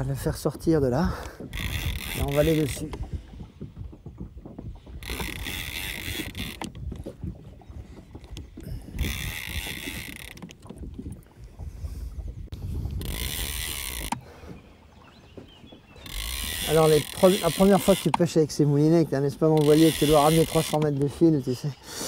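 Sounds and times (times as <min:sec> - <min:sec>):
boat knocks and creaks: 0:00.0 - 0:21.8
oars swishing in water: 0:00.0 - 0:22.0.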